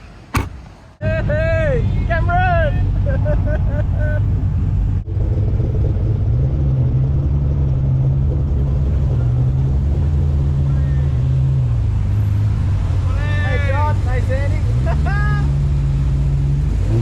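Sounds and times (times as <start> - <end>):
car engine droning at cruising revs: 2.8 - 17.0.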